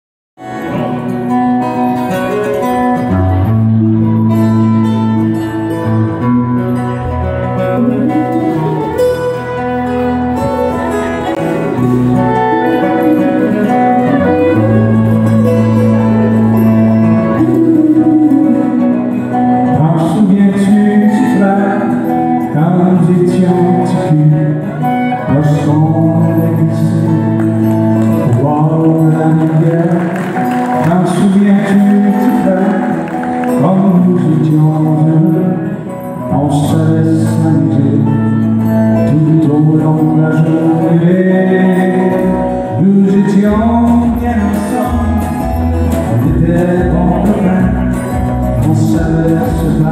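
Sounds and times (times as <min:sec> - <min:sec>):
country band playing: 0:00.4 - 0:49.9
man singing: 0:00.4 - 0:49.9.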